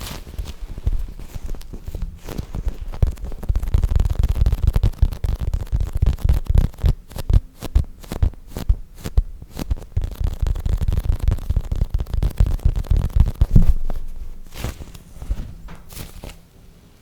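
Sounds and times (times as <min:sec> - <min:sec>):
small crackling clicks: 0:00.0 - 0:16.5.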